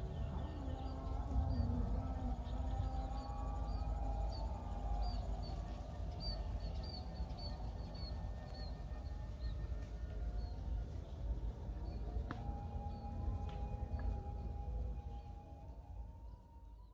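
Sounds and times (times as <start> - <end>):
low wind rumble on microphone: 0.0 - 16.2
high-pitched insect drone: 0.0 - 16.9.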